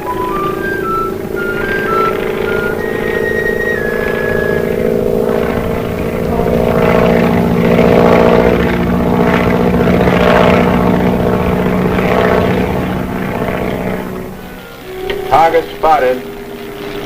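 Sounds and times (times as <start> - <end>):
light plane engine droning: 0.0 - 17.0.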